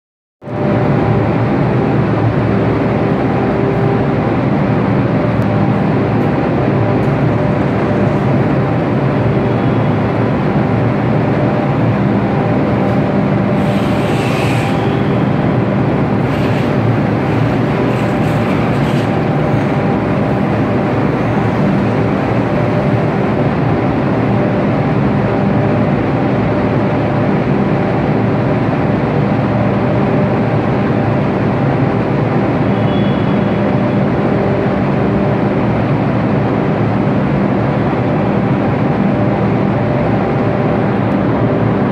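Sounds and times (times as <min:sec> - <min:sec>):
ship machinery and ventilation drone: 0:00.4 - 0:41.9.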